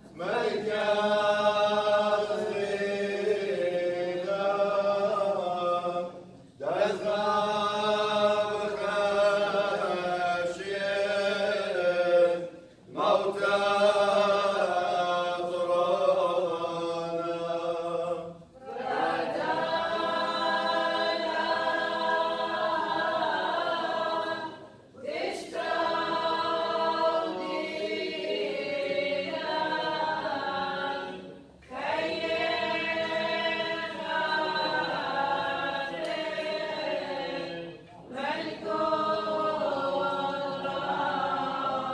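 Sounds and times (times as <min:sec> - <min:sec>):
choir chanting unaccompanied: 0:00.0 - 0:41.9.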